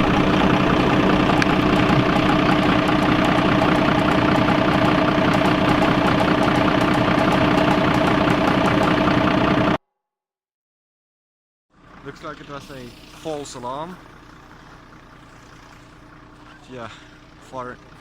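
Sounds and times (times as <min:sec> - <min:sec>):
fire engine idling: 0:00.0 - 0:09.8, 0:11.8 - 0:18.0.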